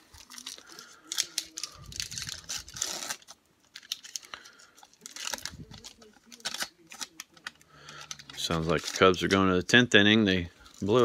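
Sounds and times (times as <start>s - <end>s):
trading cards rustling: 0.0s - 11.0s.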